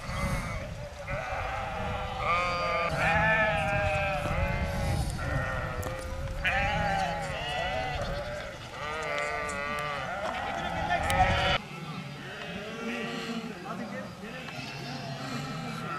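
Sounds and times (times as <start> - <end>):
flock of sheep bleating: 0.0 - 15.9.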